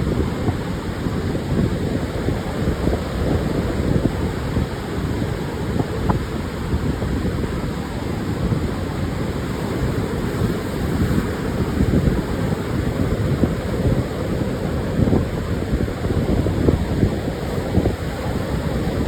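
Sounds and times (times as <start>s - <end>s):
surf washing onto a beach: 0.0s - 19.0s
wind buffeting microphone: 0.0s - 19.0s.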